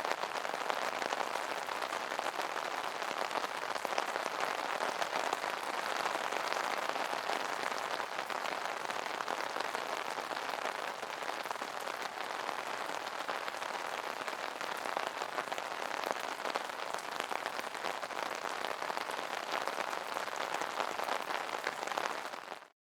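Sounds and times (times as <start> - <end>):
rain pattering on an umbrella: 0.0 - 22.7.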